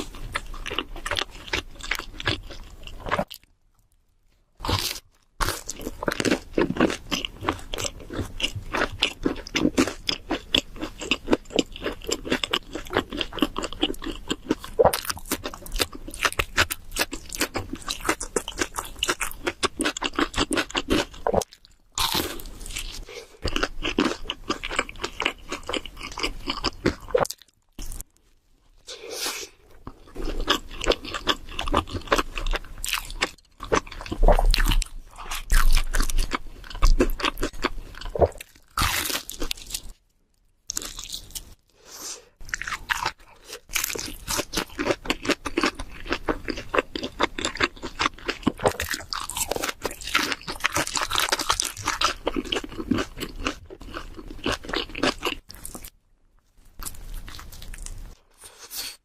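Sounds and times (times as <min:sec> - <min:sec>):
close chewing and crunching: 0:00.0 - 0:59.0.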